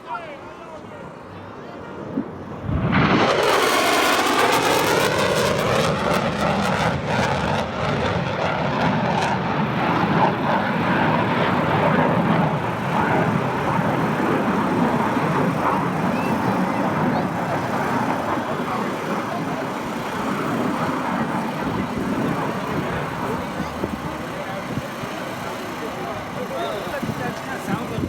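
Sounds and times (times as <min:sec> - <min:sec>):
jet engines rushing: 0:01.1 - 0:28.0.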